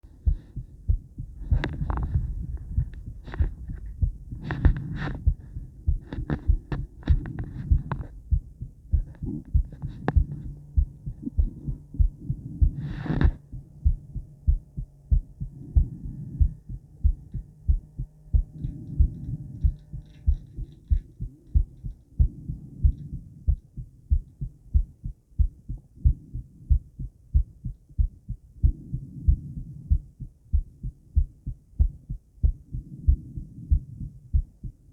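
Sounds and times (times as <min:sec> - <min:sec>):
heartbeat thumps: 0:00.0 - 0:34.9.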